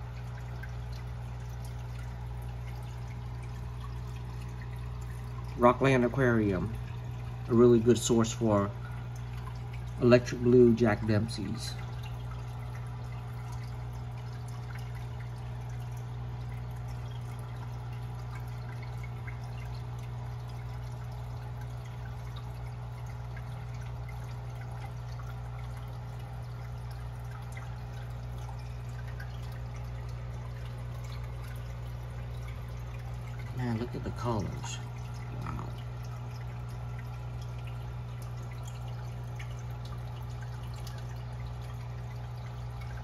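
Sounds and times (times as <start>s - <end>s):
low filter hum: 0.0s - 43.0s
water trickling and bubbling: 0.0s - 43.0s.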